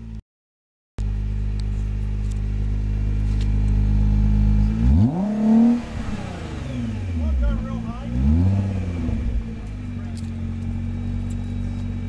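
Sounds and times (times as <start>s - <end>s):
car engine idling: 1.0s - 12.0s
car engine revving: 1.1s - 12.0s.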